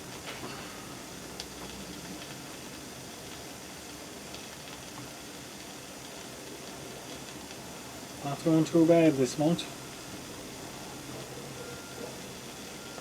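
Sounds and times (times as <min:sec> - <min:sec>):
egg sizzling in a pan: 0:00.0 - 0:13.0.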